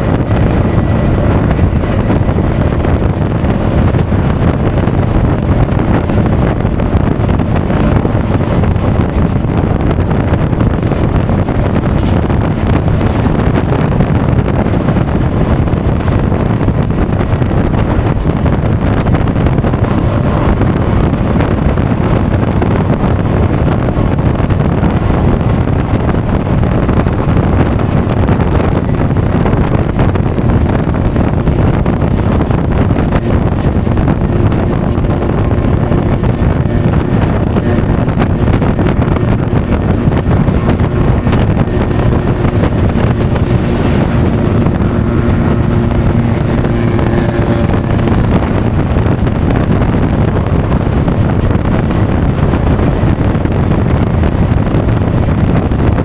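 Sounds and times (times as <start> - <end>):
scooter engine: 0.0 - 56.0
wind buffeting microphone: 0.0 - 56.0.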